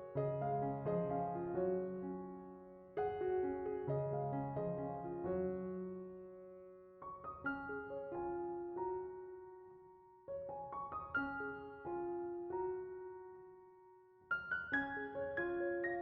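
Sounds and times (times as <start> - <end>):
soft piano notes: 0.0 - 16.0.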